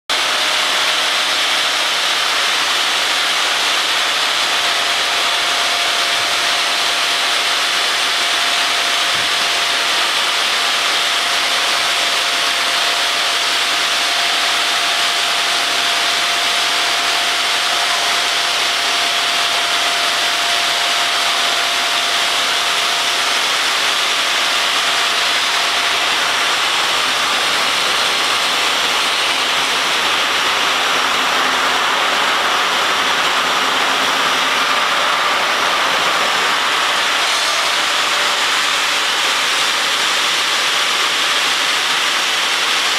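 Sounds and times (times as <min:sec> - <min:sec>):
saw cutting stone: 0:00.1 - 0:42.9.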